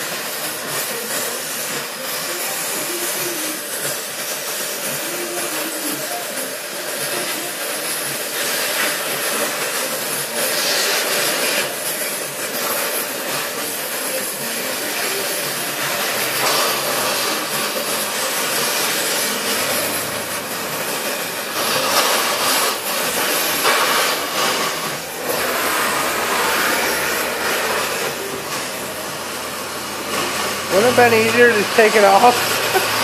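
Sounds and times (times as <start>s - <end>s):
cutting torch flame hissing: 0.0s - 33.0s.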